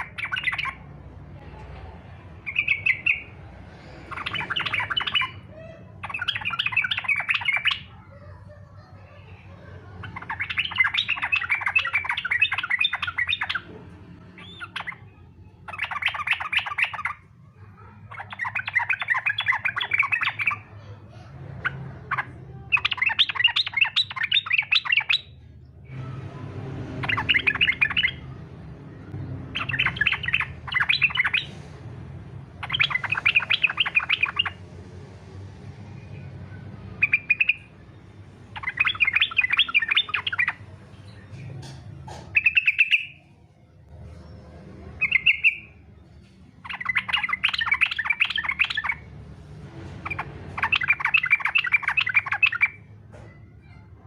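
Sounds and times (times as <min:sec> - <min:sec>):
bulbul singing rapid chattering song: 0:00.0 - 0:08.4, 0:09.0 - 0:20.9, 0:21.6 - 0:43.3, 0:44.8 - 0:45.9, 0:46.5 - 0:52.9.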